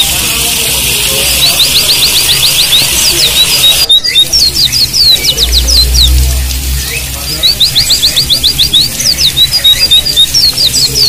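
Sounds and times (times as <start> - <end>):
birds chirping: 0.0 - 11.0
running water hissing: 0.0 - 11.0.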